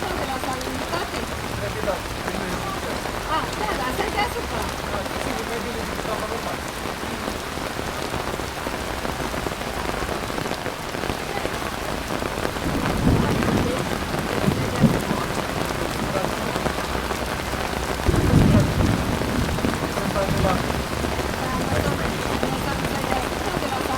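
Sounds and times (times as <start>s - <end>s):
heavy rain pouring: 0.0s - 23.9s
thunder rumbling: 0.0s - 23.9s.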